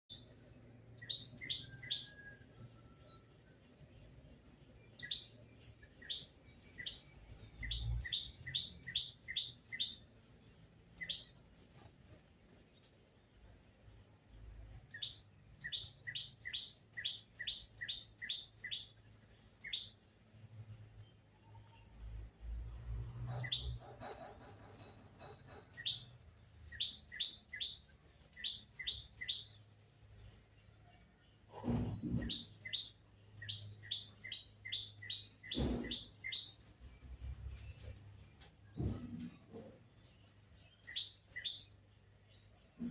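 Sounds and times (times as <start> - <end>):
bird chirping: 0.1 - 42.9.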